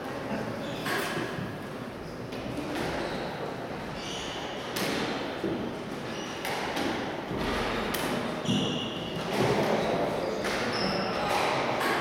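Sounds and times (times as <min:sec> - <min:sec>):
murmur of hall noise: 0:00.0 - 0:12.0.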